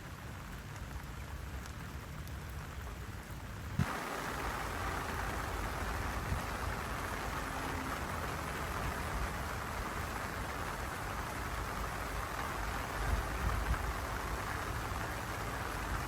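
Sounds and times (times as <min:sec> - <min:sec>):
rain on leaves and water: 0:00.0 - 0:16.0.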